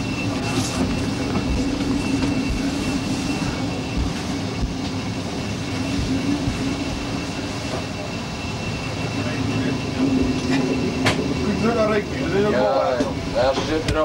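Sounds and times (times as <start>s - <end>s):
thin high whine: 0.0s - 14.0s
train engine drone: 0.0s - 14.0s.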